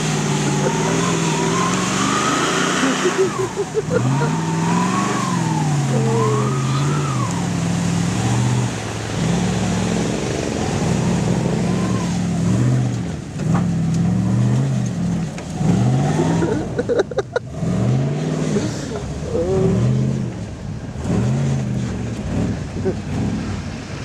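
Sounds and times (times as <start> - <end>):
pickup truck engine revving: 0.0 - 24.0.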